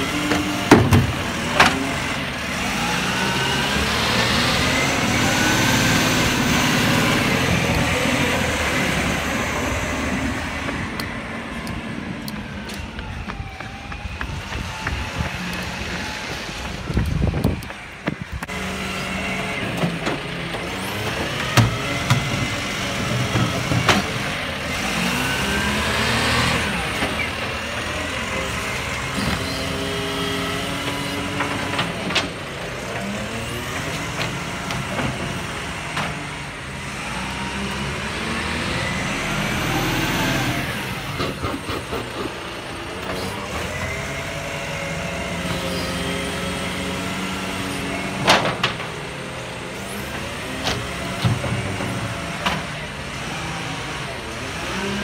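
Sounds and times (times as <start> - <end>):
garbage truck diesel engine: 0.0 - 55.0.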